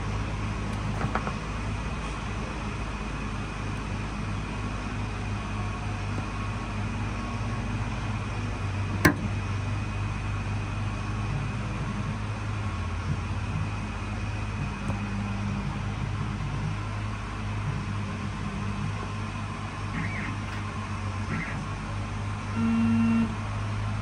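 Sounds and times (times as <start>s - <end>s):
printer humming: 0.0s - 24.0s.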